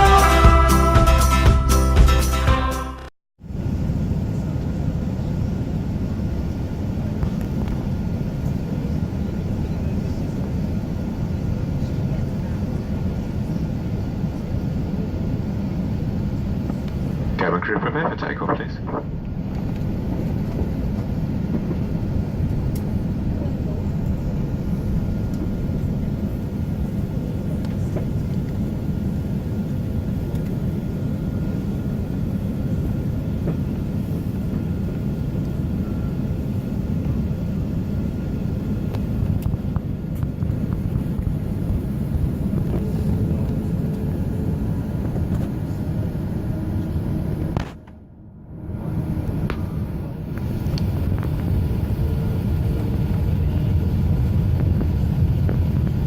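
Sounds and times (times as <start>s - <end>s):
aircraft engines rumbling: 3.5s - 56.0s
faint steady whine: 3.5s - 56.0s.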